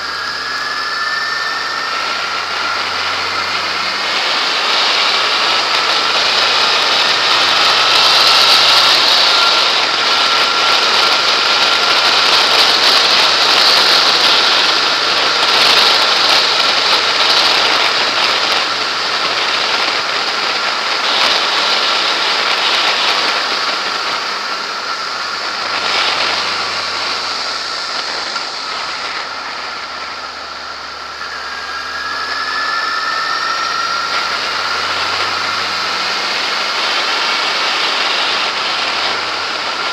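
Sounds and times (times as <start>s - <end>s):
motorcycle engine whine: 0.0s - 39.9s
wind rush: 0.0s - 39.9s.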